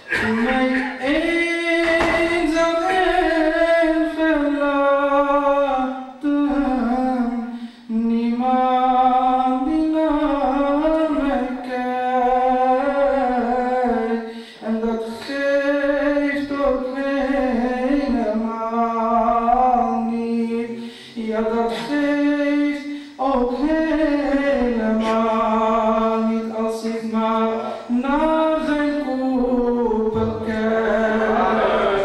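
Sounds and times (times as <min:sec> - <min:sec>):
man singing unaccompanied: 0:00.0 - 0:32.0.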